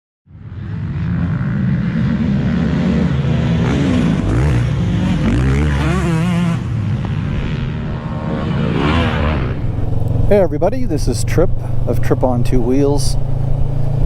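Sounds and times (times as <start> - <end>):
motorcycle engine revving: 0.3 - 14.0.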